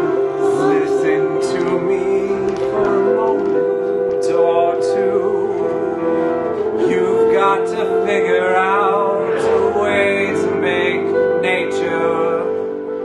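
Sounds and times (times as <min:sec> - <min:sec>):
keyboard chords: 0:00.0 - 0:13.0
person singing long notes: 0:00.0 - 0:13.0.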